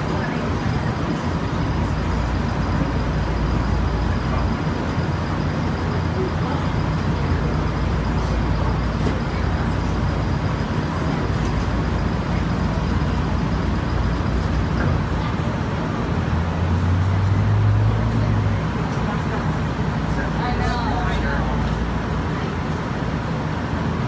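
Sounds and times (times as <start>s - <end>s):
trolley car hum and rumble: 0.0s - 24.0s.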